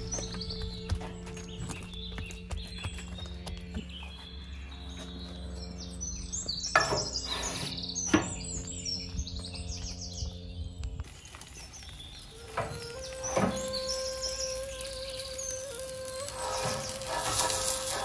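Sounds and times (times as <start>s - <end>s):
quiet background music: 0.0s - 7.2s, 7.8s - 18.0s
small birds chirping: 0.0s - 18.0s.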